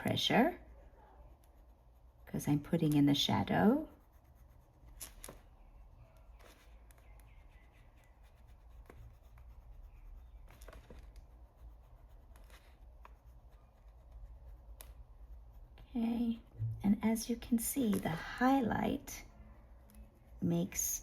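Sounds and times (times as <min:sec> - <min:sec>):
pencil scratching on paper: 0:00.0 - 0:21.0.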